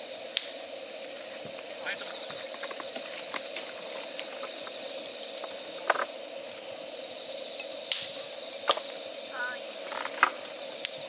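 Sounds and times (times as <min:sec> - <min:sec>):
campfire crackling and popping: 0:00.3 - 0:00.6, 0:01.6 - 0:06.7, 0:07.6 - 0:11.0.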